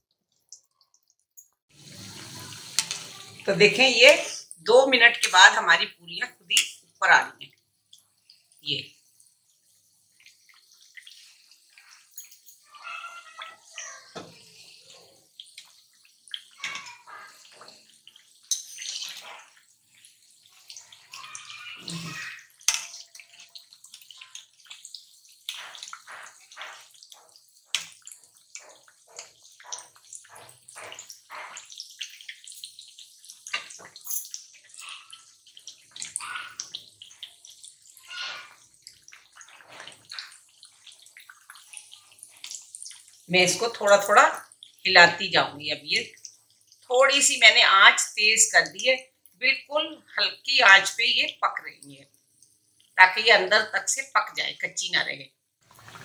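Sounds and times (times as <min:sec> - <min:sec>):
deep-frying oil sizzling: 0:00.0 - 0:56.0.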